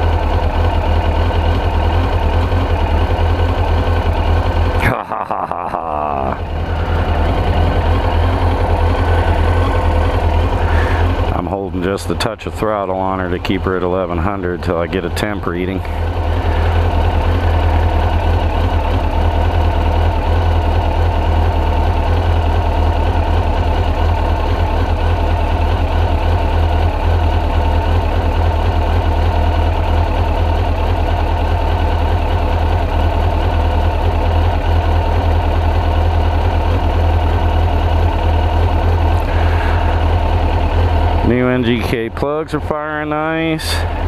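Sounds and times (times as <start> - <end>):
motorcycle engine fast idle: 0.0 - 5.6, 6.2 - 44.0.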